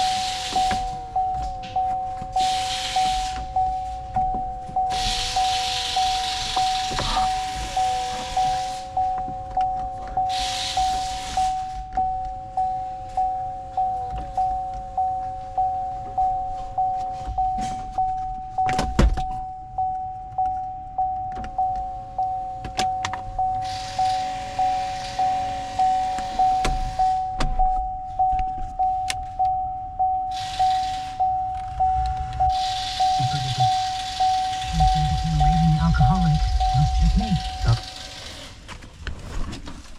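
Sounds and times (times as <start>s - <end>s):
vehicle warning chime: 0.0s - 38.3s.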